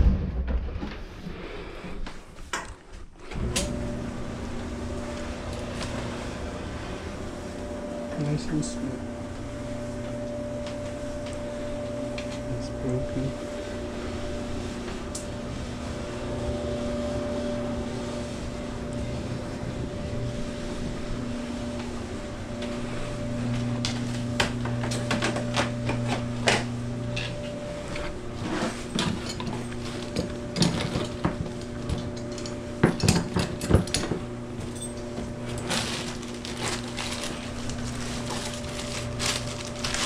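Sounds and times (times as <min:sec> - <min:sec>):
steady hum: 0:00.0 - 0:40.0.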